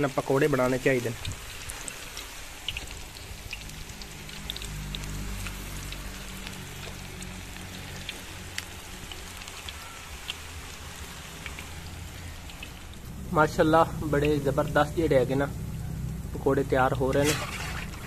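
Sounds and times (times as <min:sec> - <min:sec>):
deep-frying sizzle with pops: 0:00.0 - 0:18.0.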